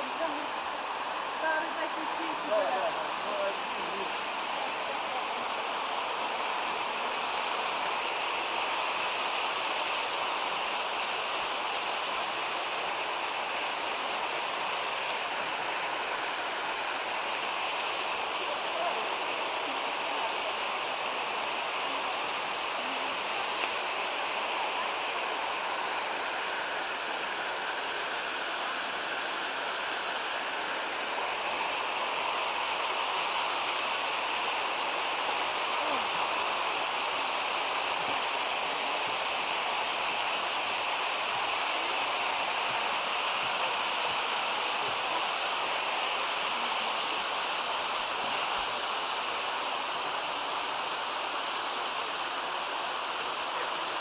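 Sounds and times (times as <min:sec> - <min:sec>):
water rushing over rapids: 0:00.0 - 0:54.0.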